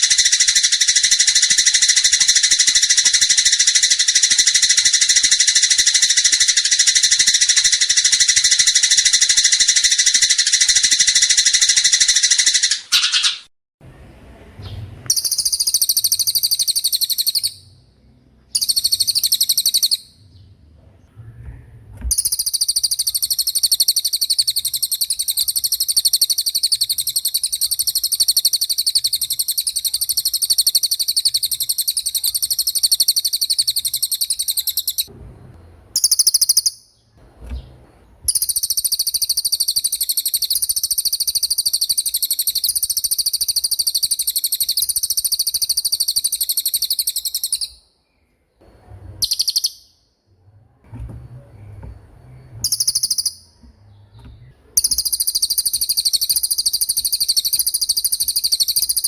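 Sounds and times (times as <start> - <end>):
songbird trilling: 0.0 - 13.5, 15.1 - 17.7, 18.5 - 20.2, 22.1 - 35.1, 36.0 - 36.8, 38.3 - 47.8, 49.2 - 49.9, 52.3 - 59.0.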